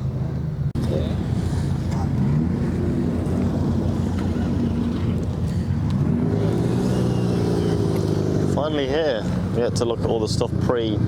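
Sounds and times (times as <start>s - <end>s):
car engine running: 0.7s - 11.0s.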